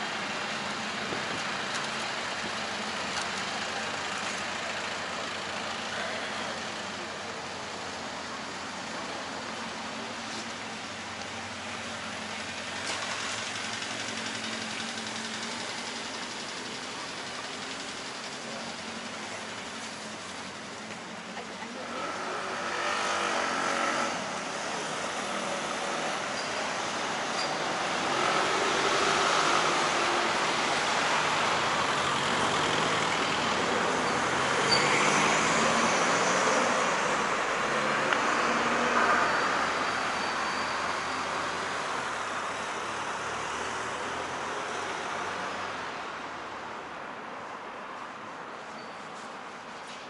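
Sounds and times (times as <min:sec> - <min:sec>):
road traffic passing close by: 0:00.0 - 0:50.0.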